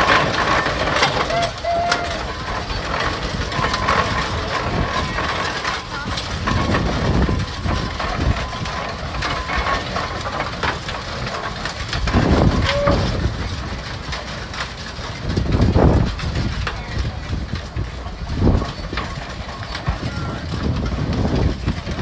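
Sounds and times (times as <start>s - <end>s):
gearing clanking and rattling: 0.0s - 22.0s
iron wheels rolling on pavement: 0.0s - 22.0s
steam exhaust chuffing: 0.0s - 22.0s.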